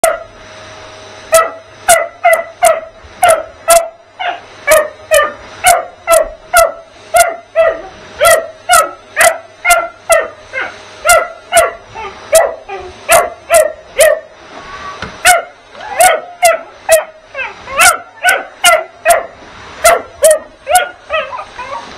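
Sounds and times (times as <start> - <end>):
puppy barking: 0.0 - 0.3, 1.3 - 14.3, 15.2 - 21.8
vacuum cleaner motor hum: 0.0 - 21.9.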